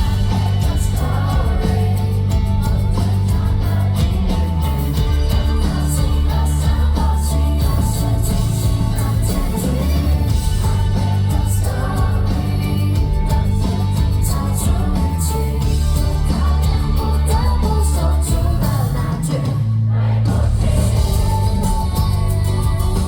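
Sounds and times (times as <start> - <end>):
pop-rock song: 0.0 - 23.0.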